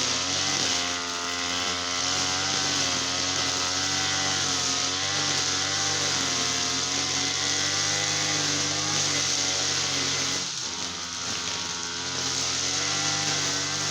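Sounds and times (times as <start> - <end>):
small petrol engine running: 0.0 - 13.9.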